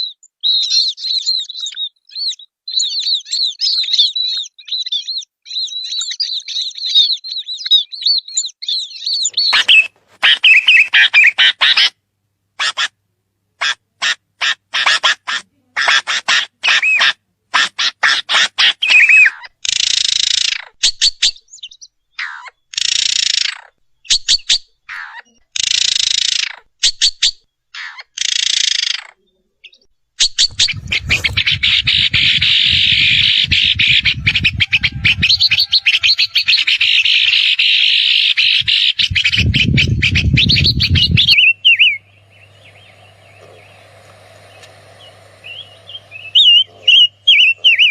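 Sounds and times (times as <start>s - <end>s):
birds chattering: 0.0s - 12.0s, 13.6s - 47.9s
songbirds calling: 0.0s - 12.0s, 13.6s - 47.9s.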